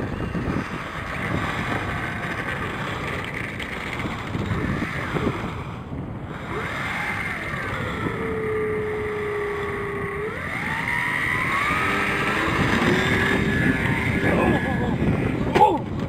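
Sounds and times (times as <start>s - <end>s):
model plane electric motor whine: 0.0s - 15.5s
wind buffeting microphone: 0.0s - 16.0s.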